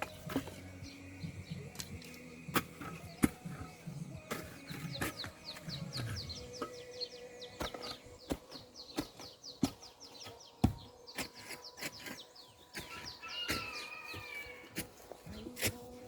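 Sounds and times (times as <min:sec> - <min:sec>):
bird chirping: 0:00.0 - 0:15.8.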